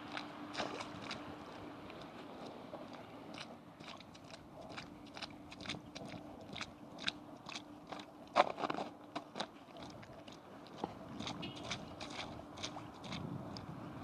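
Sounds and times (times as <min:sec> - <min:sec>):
rubber boots stepping through puddles: 0:00.0 - 0:14.0.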